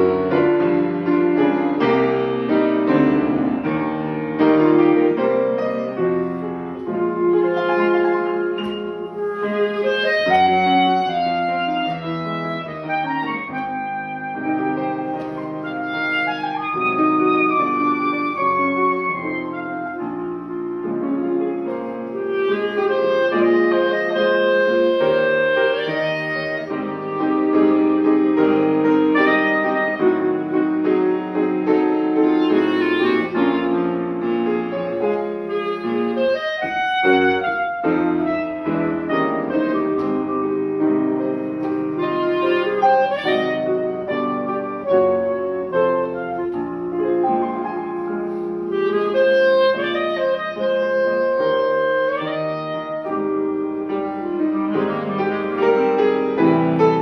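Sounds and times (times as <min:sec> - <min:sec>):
piano: 0:00.0 - 0:57.0
woodwind melody: 0:00.0 - 0:57.0.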